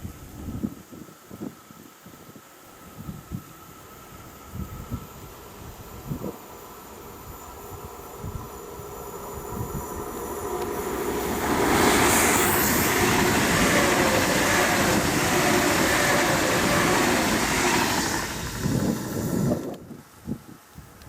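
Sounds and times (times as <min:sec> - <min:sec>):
train passing at speed: 0:02.8 - 0:20.5.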